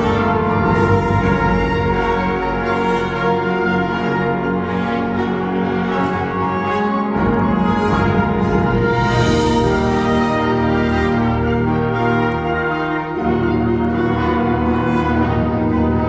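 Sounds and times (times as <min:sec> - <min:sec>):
wind band playing chords: 0:00.0 - 0:16.0.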